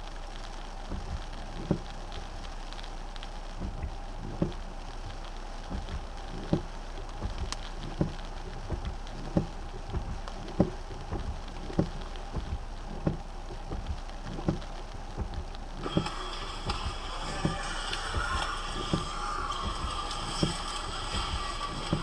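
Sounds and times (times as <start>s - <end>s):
rain on a car: 0.0s - 22.0s
short dull thumps: 0.8s - 22.0s.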